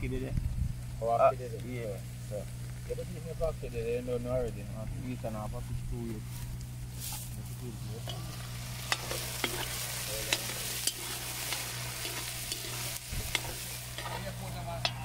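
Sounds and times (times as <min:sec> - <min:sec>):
fish sizzling in hot oil: 0:00.0 - 0:05.4, 0:06.2 - 0:15.0
steady low hum: 0:00.0 - 0:15.0.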